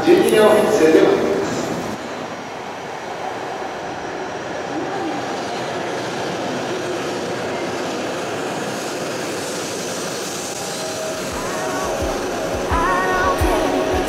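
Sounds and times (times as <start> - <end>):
train rushing past: 0.0 - 14.0.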